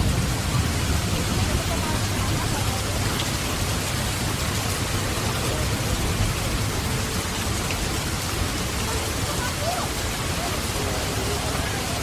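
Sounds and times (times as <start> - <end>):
heavy rainfall: 0.0 - 12.0.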